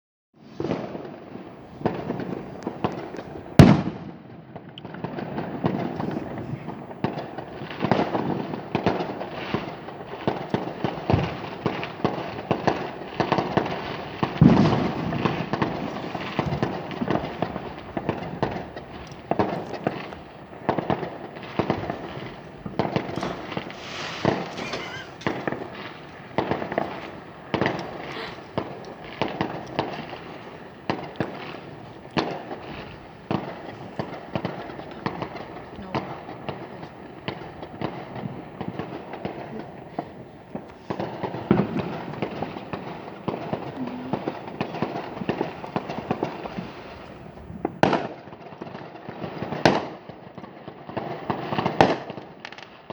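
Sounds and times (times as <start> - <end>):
fireworks bangs and crackles: 0.4 - 52.9.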